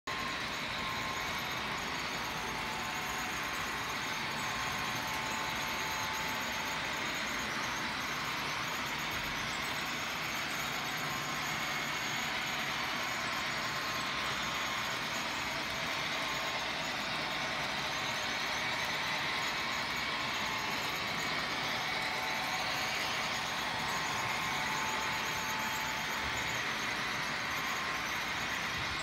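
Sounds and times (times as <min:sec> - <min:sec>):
faint steady whine: 0:00.1 - 0:29.0
model train motors running: 0:00.1 - 0:29.0.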